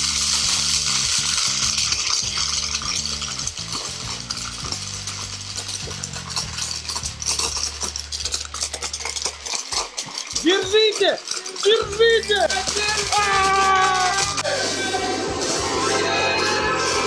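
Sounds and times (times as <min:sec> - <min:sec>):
hand blender motor humming: 0:00.0 - 0:17.0
jelly beans rattling in bowl: 0:00.0 - 0:17.0.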